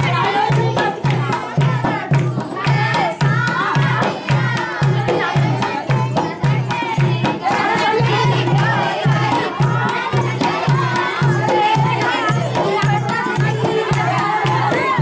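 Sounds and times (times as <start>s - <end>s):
person singing folk song: 0.0s - 15.0s
rattling percussion: 0.0s - 15.0s
steady drum beat: 0.0s - 15.0s.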